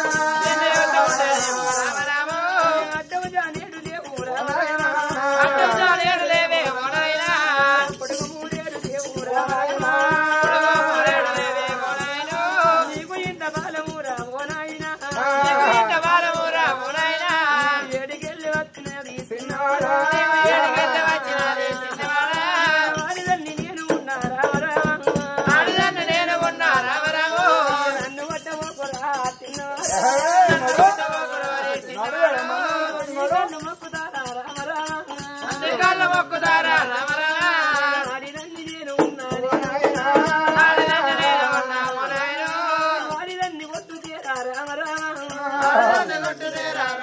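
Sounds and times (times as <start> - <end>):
barrel drum beat: 0.0 - 37.6, 38.4 - 41.6
jingling hand percussion: 0.0 - 47.0
man singing: 0.0 - 47.0.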